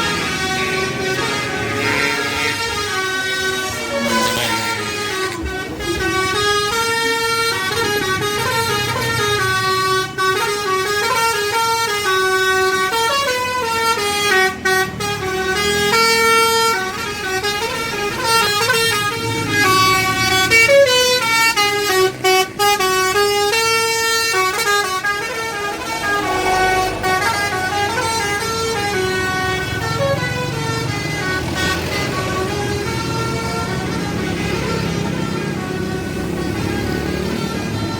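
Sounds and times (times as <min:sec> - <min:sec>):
bus air horn playing a melody: 0:00.0 - 0:37.9.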